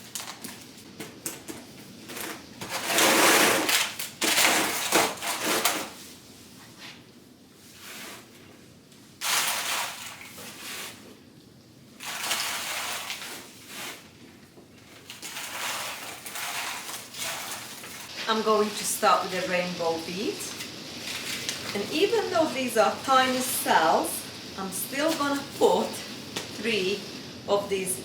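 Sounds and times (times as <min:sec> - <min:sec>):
compost scooping and scraping: 0:02.0 - 0:11.2, 0:12.0 - 0:27.0.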